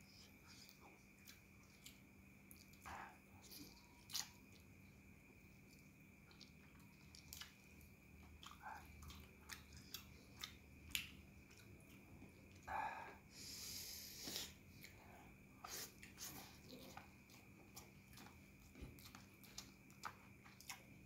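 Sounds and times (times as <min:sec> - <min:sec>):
faint steady hum: 0:00.0 - 0:21.0
close-up chewing: 0:00.1 - 0:12.7, 0:14.4 - 0:21.0.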